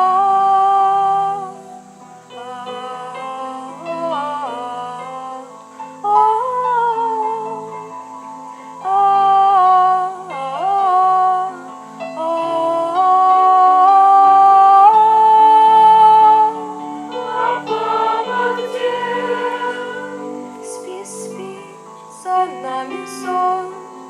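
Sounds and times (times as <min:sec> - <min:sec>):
instrumental accompaniment: 0:00.0 - 0:24.0
voices singing long notes: 0:00.0 - 0:24.0.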